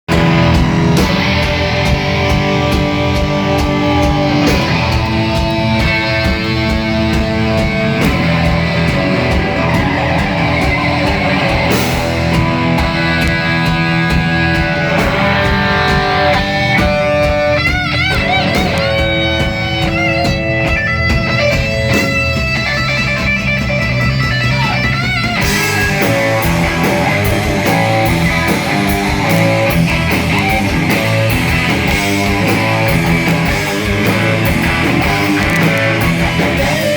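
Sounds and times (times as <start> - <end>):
distorted electric guitar: 0.0 - 36.9
hard rock music: 0.0 - 36.9
steady drum beat: 0.1 - 36.9.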